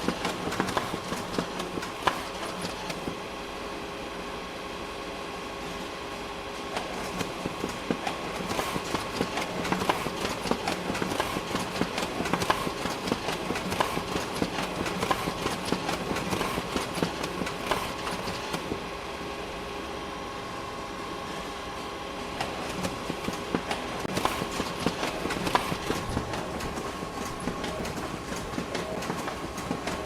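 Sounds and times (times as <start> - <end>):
photocopier humming: 0.0 - 3.2, 6.8 - 19.8, 21.3 - 30.0.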